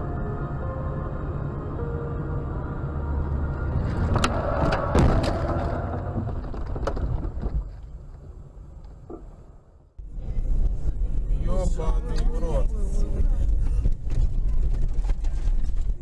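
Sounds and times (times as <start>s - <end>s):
road and engine noise: 0.0s - 16.0s.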